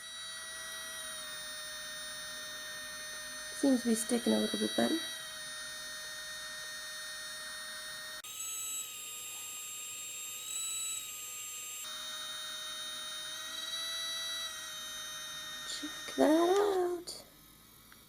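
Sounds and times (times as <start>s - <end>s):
electric pen motor whine: 0.0s - 18.0s.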